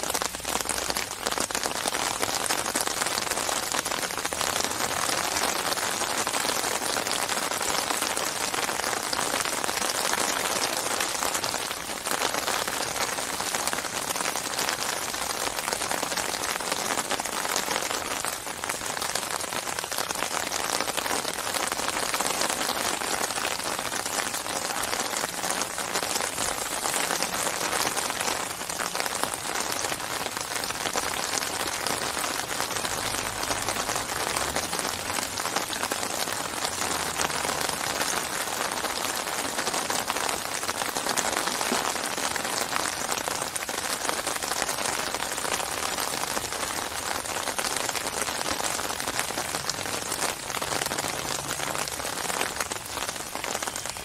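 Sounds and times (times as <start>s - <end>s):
rain falling on water: 0.0s - 54.0s.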